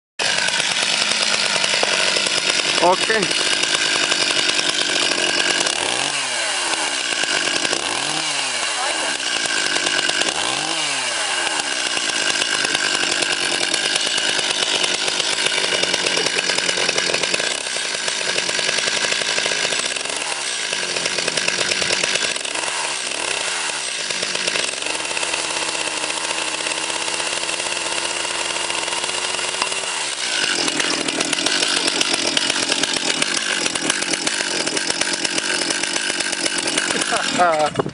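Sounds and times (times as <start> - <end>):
chainsaw revving: 0.2 - 37.9.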